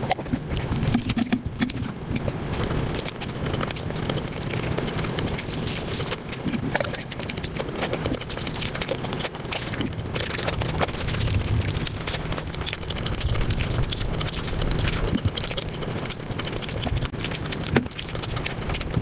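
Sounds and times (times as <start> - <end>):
sped-up chewing and mouth smacking: 0.0 - 19.0.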